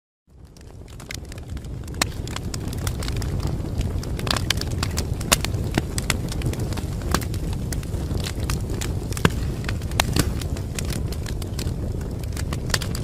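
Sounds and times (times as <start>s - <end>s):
fire crackling and popping: 0.3s - 13.0s
fire flames rumbling: 0.3s - 13.0s.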